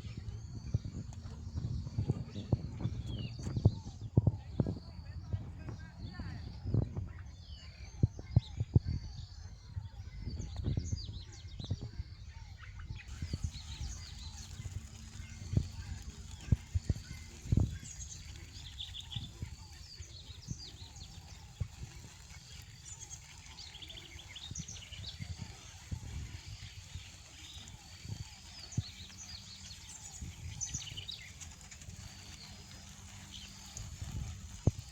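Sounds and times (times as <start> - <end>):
low outdoor rumble: 0.0 - 34.9
small birds chirping and trilling: 0.0 - 34.9.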